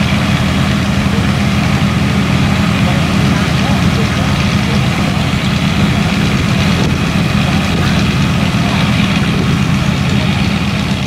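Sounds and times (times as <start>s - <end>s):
fire engine motors droning: 0.0s - 11.0s.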